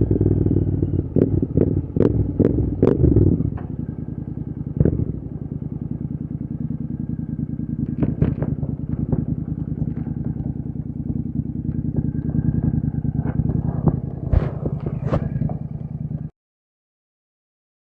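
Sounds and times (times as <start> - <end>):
motorcycle engine burble: 0.0 - 16.3.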